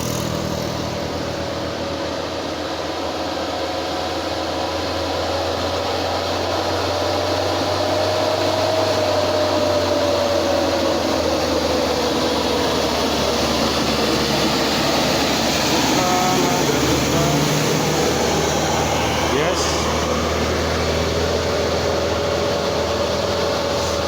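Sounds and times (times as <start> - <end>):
bus engine droning with whine: 0.0 - 24.0.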